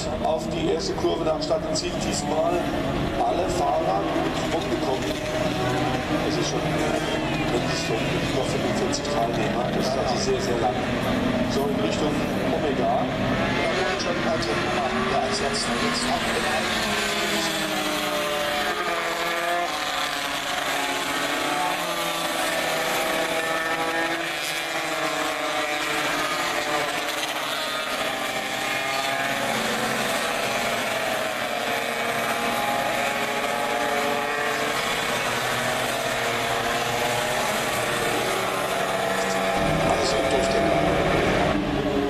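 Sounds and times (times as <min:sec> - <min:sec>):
motorcycle engines revving: 0:00.0 - 0:42.0.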